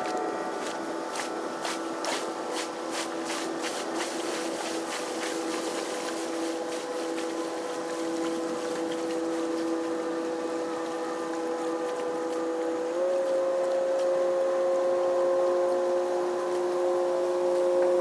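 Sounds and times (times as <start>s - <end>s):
machinery hum with held tones: 0.0s - 18.0s.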